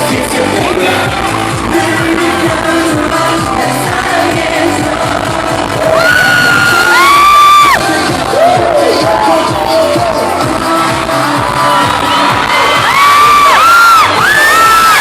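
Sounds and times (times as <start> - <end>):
live pop band with singing: 0.0 - 15.0.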